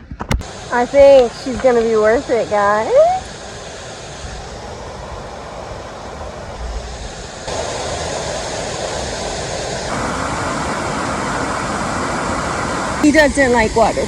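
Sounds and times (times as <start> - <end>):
waterfall roaring: 0.4 - 14.0.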